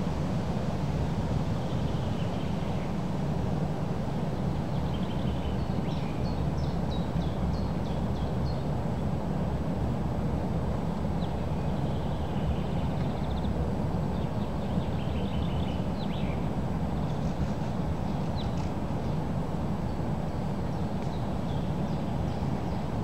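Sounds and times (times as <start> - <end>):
songbirds chirping: 0.8 - 23.0.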